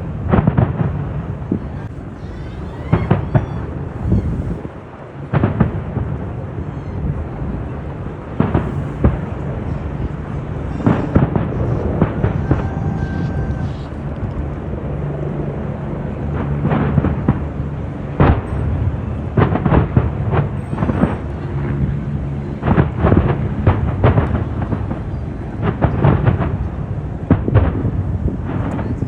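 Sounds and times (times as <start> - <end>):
low rumble of fireworks: 0.0 - 29.0
fireworks bangs: 0.2 - 14.3, 16.3 - 29.0.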